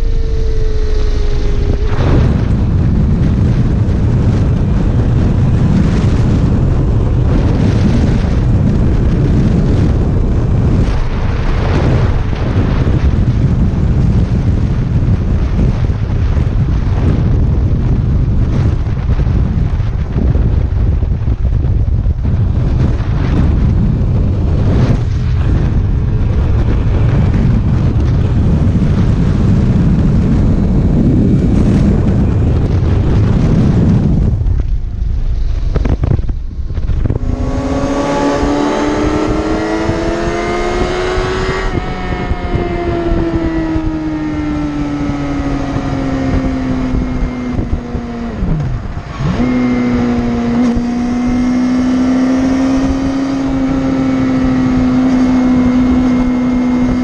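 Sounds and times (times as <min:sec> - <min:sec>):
motorcycle engine revving: 0:00.0 - 0:19.0, 0:22.2 - 0:57.0
wind buffeting microphone: 0:00.0 - 0:57.0.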